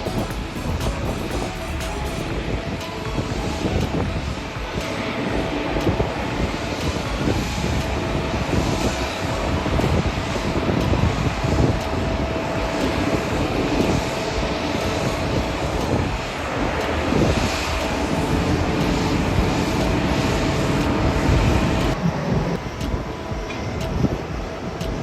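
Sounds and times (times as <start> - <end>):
jet engines rushing drone: 0.0 - 25.0
thin steady tone: 0.0 - 25.0.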